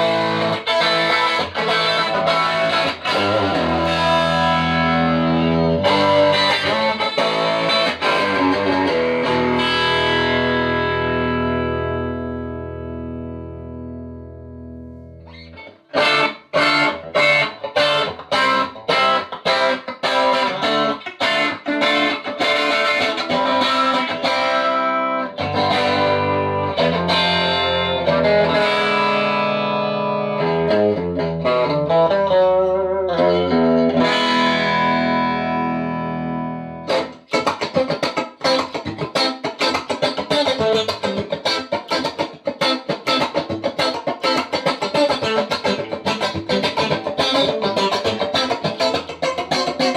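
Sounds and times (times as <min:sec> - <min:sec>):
electric guitar picking: 0:00.0 - 0:49.9.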